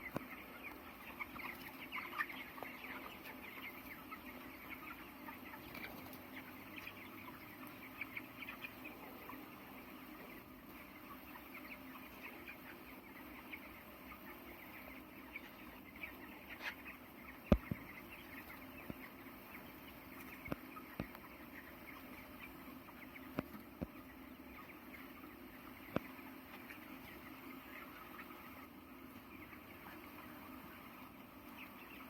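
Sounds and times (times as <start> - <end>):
chicks peeping and chirping: 0.0 - 32.0.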